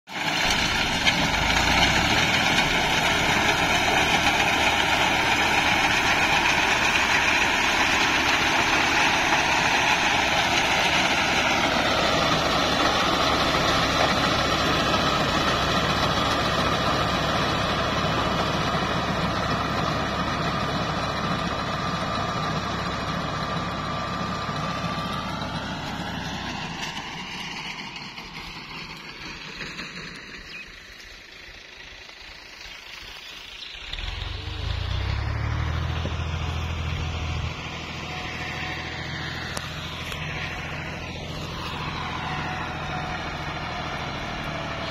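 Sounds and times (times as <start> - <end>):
diesel tractor engine running: 0.1 - 44.9.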